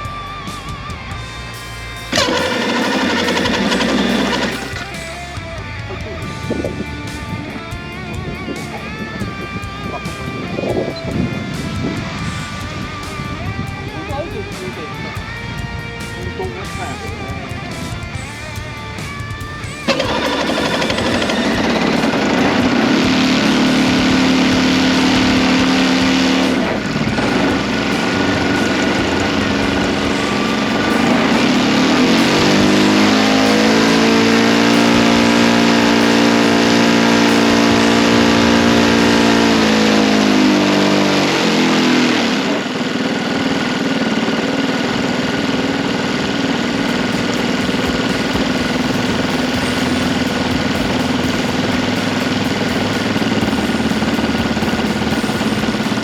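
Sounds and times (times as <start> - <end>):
model airplane engine running: 2.0 - 7.6, 16.1 - 56.0.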